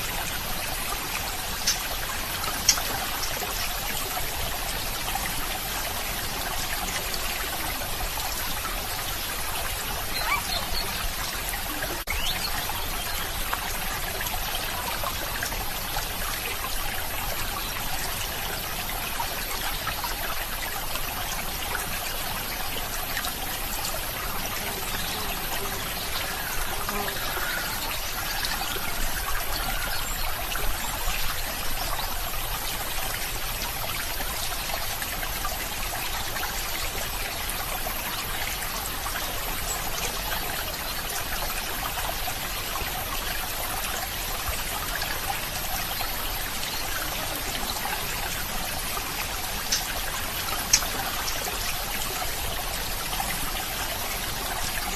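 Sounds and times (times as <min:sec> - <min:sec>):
stream water trickling: 0:00.0 - 0:54.9.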